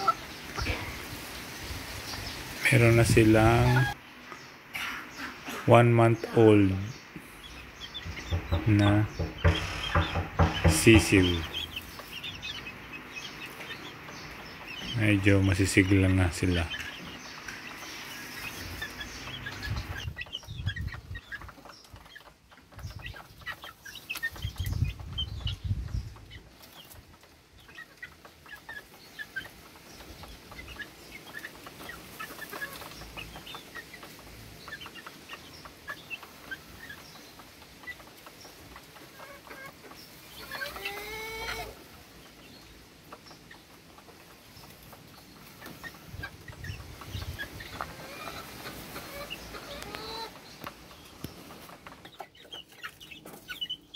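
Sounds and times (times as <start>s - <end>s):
chicks chirping and clucking: 0.0s - 53.9s.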